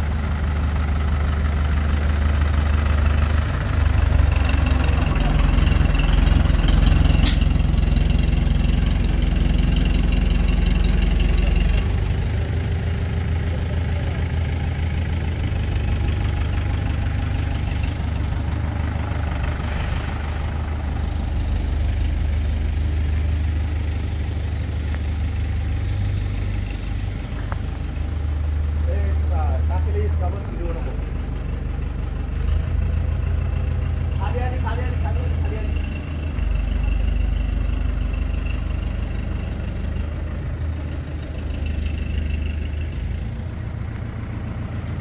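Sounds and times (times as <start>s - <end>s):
engine idling: 0.0s - 45.0s.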